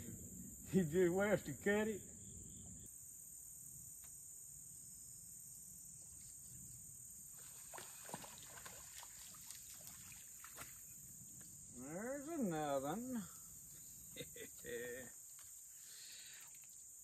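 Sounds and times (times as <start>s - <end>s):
crickets droning: 0.0s - 17.0s.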